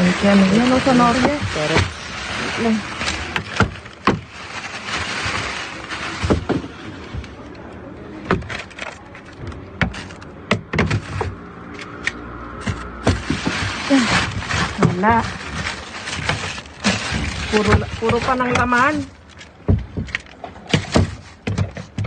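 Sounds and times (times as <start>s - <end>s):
plastic and paper bags rustling: 0.0s - 22.0s.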